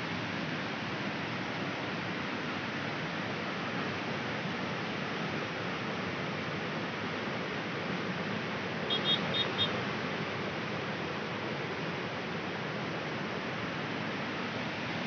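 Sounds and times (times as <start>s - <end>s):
floodwater rushing: 0.1s - 15.0s.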